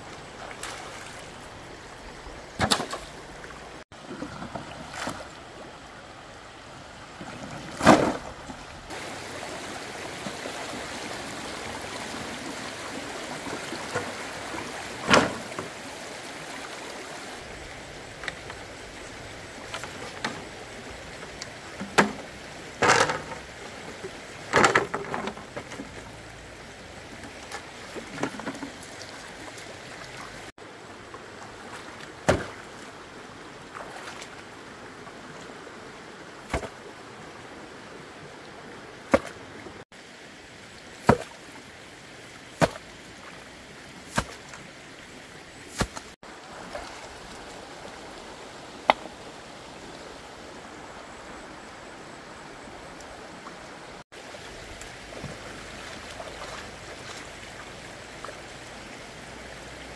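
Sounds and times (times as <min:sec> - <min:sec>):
steady rush of running water: 0:00.0 - 0:59.9.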